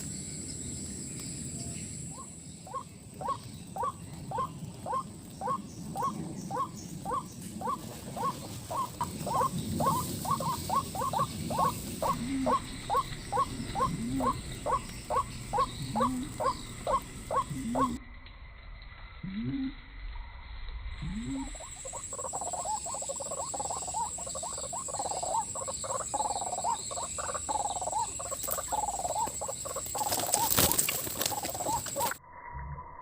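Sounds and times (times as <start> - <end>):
waterhen calling: 2.1 - 18.0, 21.0 - 32.2.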